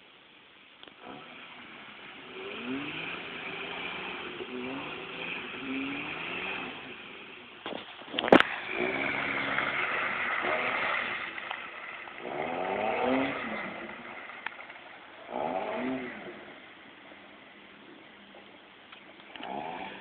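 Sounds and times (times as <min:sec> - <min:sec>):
engine revving: 0:01.0 - 0:16.8, 0:19.2 - 0:20.0.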